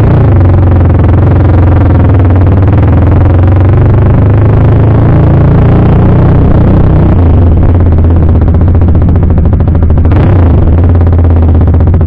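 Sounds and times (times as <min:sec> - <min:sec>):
motorcycle engine deep note: 0:00.0 - 0:12.0.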